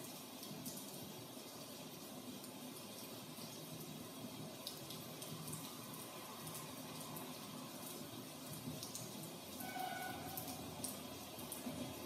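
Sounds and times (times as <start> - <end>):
drips ticking: 0.0 - 12.0
steady rain: 0.0 - 12.0.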